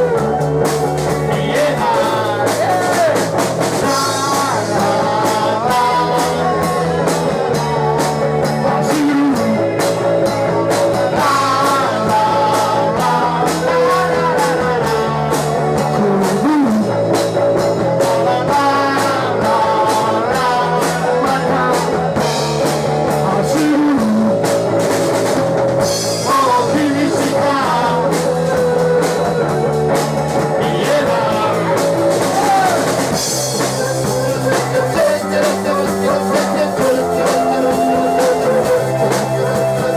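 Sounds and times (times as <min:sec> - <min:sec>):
person singing: 0:00.0 - 0:17.0, 0:17.9 - 0:24.5, 0:26.1 - 0:39.9
drum kit beat: 0:00.0 - 0:39.9
electric guitar: 0:00.0 - 0:39.9.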